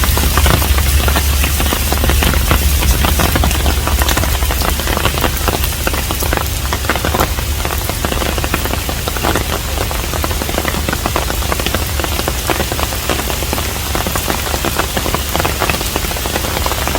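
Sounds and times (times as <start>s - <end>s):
low rumble: 0.0s - 16.9s
rain falling on a house: 0.0s - 16.9s.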